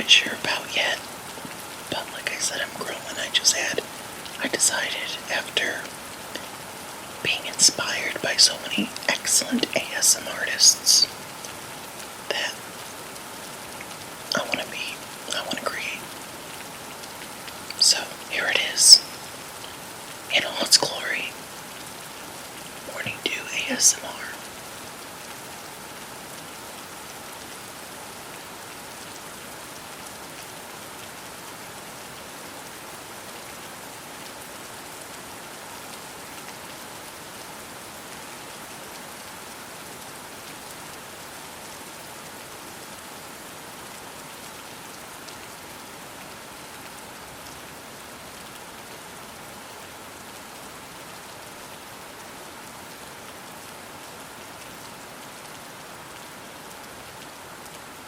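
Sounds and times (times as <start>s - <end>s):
soft rain falling: 0.0s - 58.0s.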